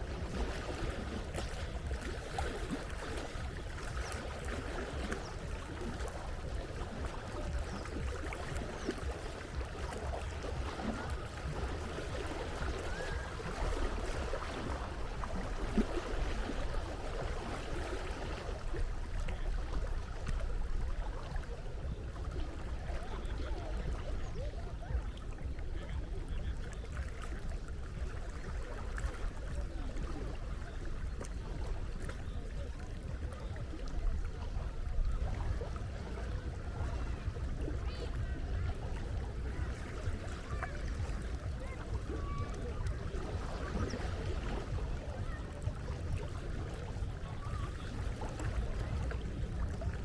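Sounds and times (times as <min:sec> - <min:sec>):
sea water lapping: 0:00.0 - 0:50.0.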